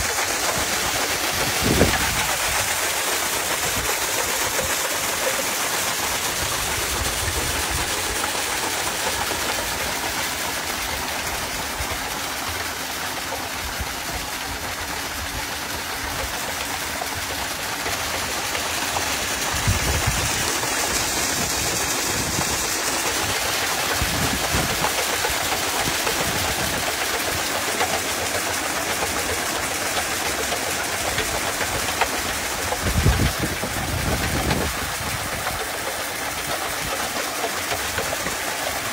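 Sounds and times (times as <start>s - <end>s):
water pump running: 0.0s - 38.9s
water spray rushing: 0.0s - 38.9s.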